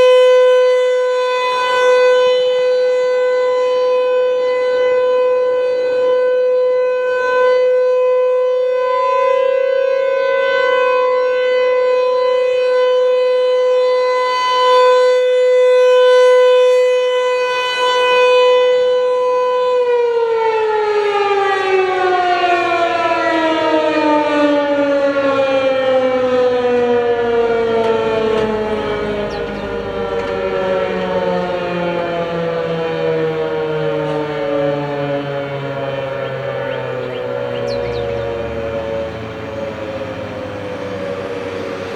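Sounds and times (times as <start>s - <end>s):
tornado siren: 0.0s - 41.9s.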